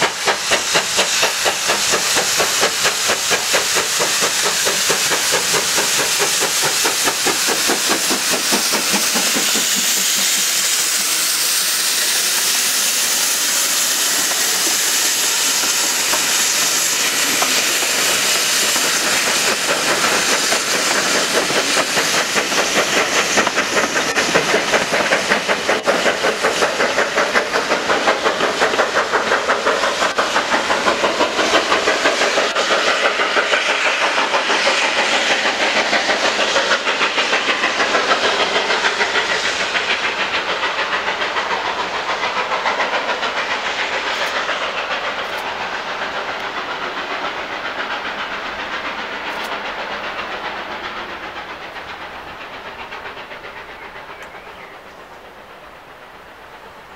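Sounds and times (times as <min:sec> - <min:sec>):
steam locomotive chuffing: 0:00.0 - 0:56.9.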